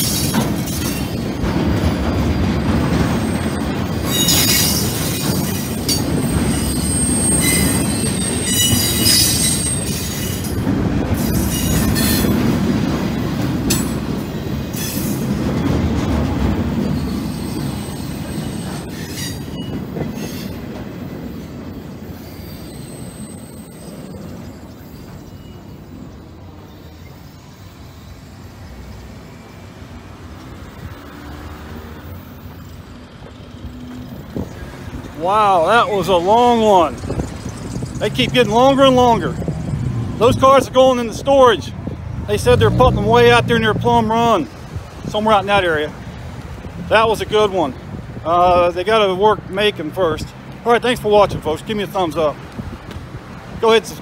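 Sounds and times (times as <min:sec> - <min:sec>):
train cars clanking: 0:00.0 - 0:31.2, 0:32.0 - 0:54.0
wheels squealing on rail: 0:00.0 - 0:47.9
freight train rumbling past: 0:00.0 - 0:54.0.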